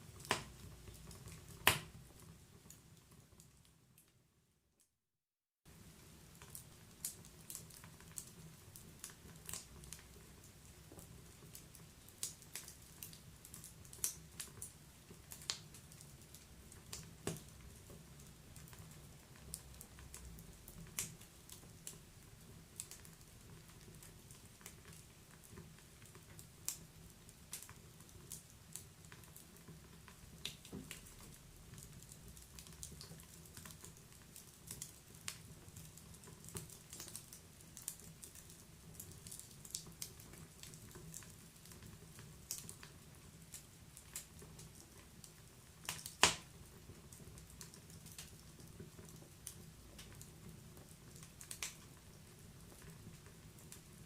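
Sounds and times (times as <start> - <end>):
wood fire crackling and popping: 0.0 - 4.2, 5.7 - 54.0.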